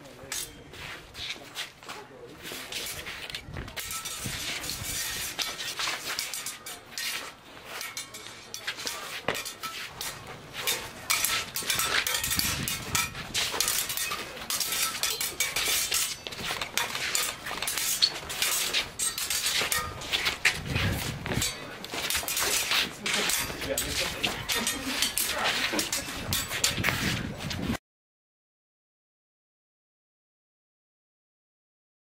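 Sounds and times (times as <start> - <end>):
sword blades clashing and scraping: 0.1 - 27.7.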